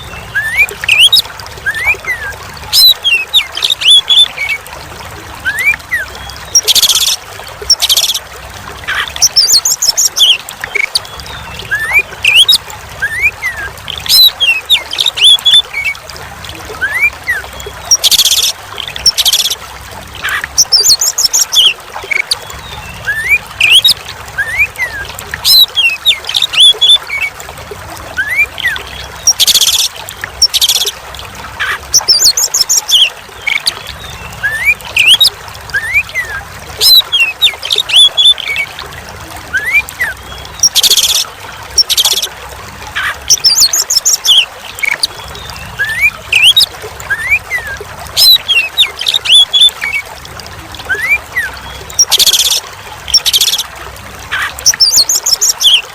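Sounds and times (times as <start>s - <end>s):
trickling water: 0.0s - 55.9s.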